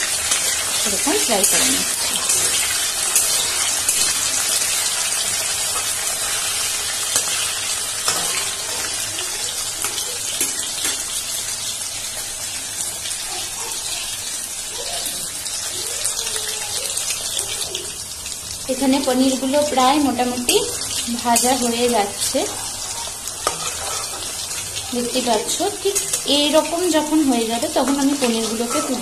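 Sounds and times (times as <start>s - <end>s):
cheese sizzling in hot oil: 0.0s - 29.0s.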